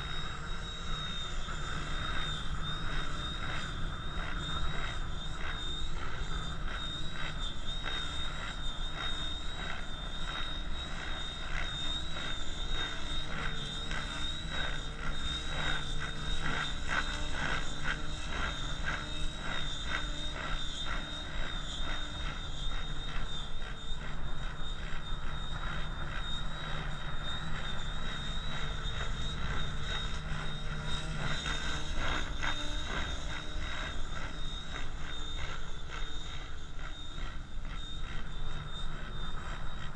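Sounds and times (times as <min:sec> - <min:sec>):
high-pitched motor whine: 0:00.0 - 0:39.9
model helicopter flying: 0:00.0 - 0:39.9.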